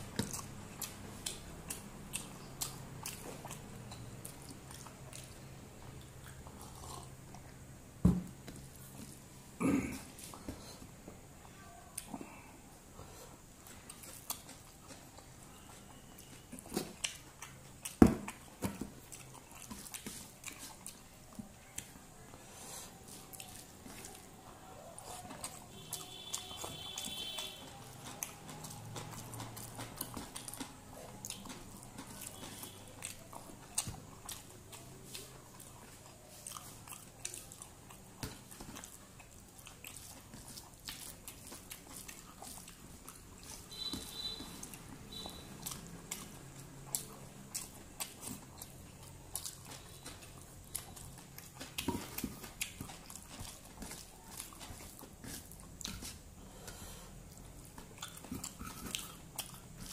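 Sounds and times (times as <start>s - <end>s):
person chewing with crunches: 0.0s - 59.9s.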